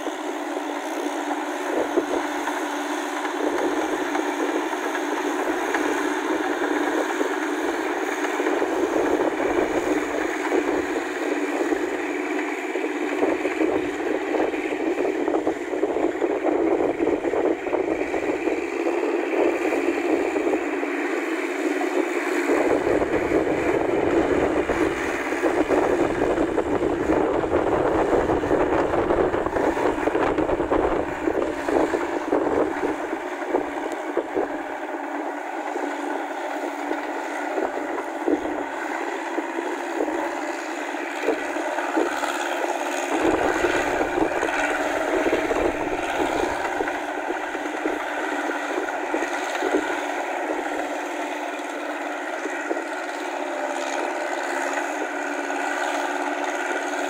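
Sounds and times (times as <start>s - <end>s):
tractor diesel engine running: 0.0s - 57.0s
wind gusting on microphone: 3.4s - 57.0s.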